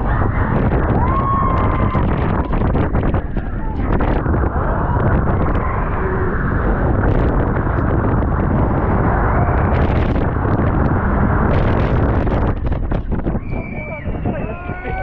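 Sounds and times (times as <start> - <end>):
wind roar on microphone: 0.0 - 15.0.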